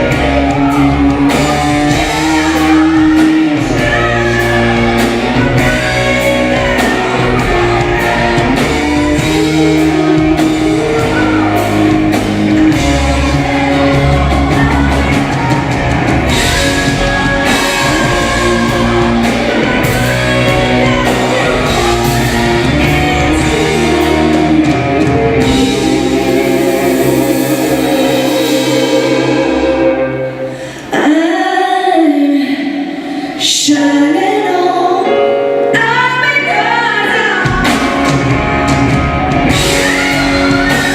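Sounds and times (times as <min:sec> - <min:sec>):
electric guitar: 0:00.0 - 0:31.3, 0:33.4 - 0:40.9
live rock band playing: 0:00.0 - 0:32.2, 0:33.3 - 0:40.9
person singing: 0:00.0 - 0:40.9.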